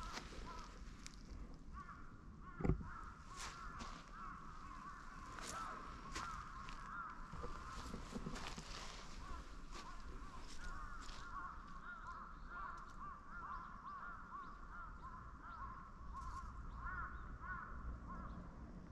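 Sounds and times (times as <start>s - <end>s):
bird calling: 0.0s - 1.2s, 1.8s - 18.4s.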